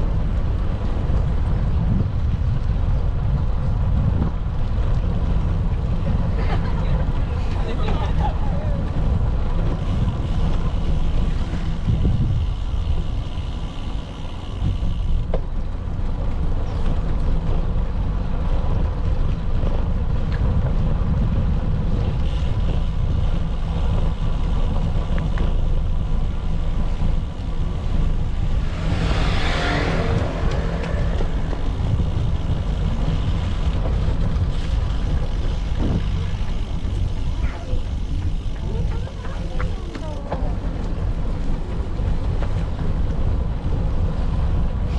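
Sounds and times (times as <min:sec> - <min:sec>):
street traffic: 0:00.0 - 0:44.9
wind rumbling on microphone: 0:00.0 - 0:44.9.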